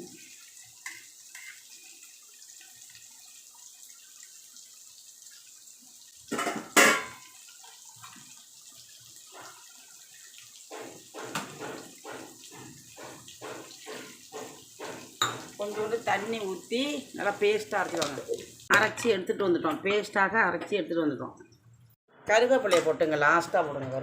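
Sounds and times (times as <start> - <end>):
faint running and dripping water: 0.0 - 19.7, 21.1 - 22.0.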